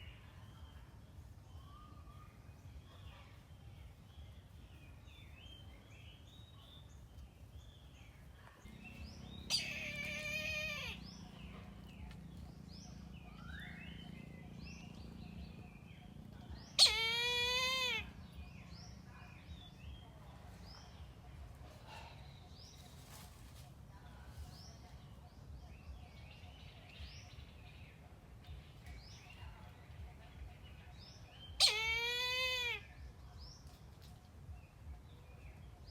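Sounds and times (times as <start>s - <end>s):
faint low hum: 0.0s - 31.7s
small birds chirping: 0.0s - 35.9s.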